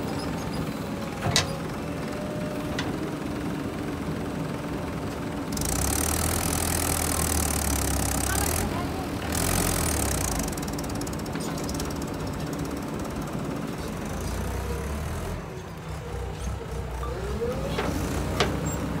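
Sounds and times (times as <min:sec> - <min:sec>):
diesel engines running: 0:00.0 - 0:19.0.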